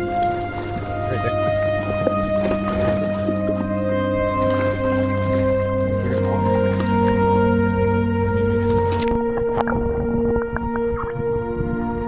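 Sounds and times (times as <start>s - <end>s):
music of sustained chords: 0.0s - 12.0s.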